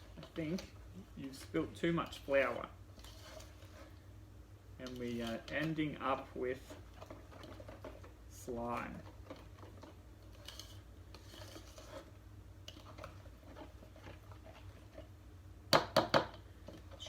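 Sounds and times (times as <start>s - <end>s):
play-dough scraping in a bowl: 0.0s - 4.0s, 4.8s - 15.2s.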